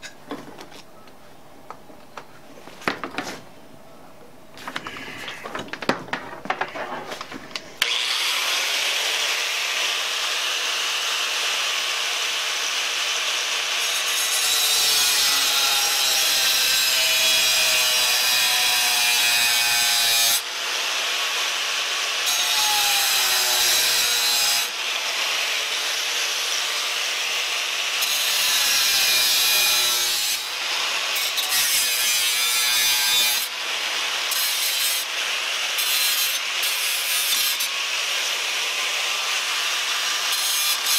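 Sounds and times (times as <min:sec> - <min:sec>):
angle grinder grinding steel: 0:06.4 - 0:40.9.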